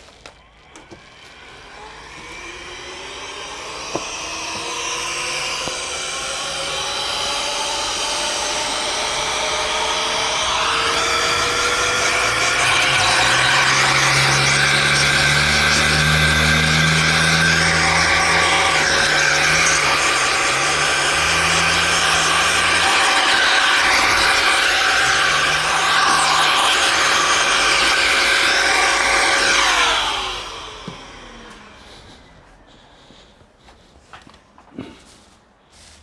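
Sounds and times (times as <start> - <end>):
electric air blower whine: 0.0 - 33.2.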